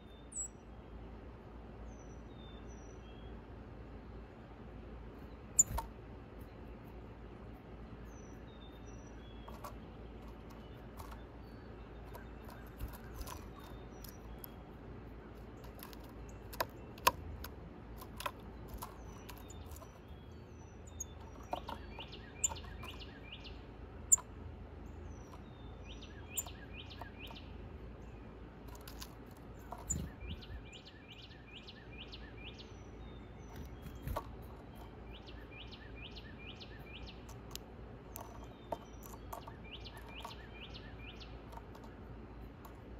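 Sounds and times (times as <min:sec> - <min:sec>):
small songbirds chirping: 0:00.0 - 0:42.9
steady outdoor hiss: 0:00.0 - 0:42.9.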